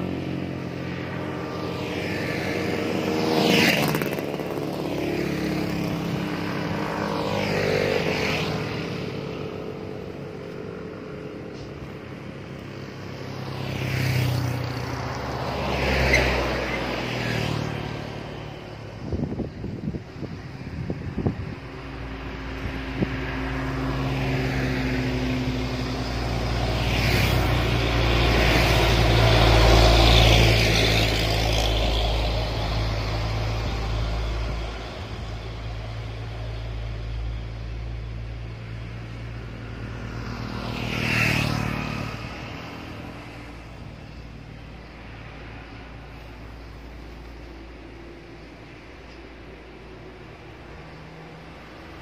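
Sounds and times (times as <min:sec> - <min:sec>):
vehicle engine rumble: 0:00.0 - 0:52.0.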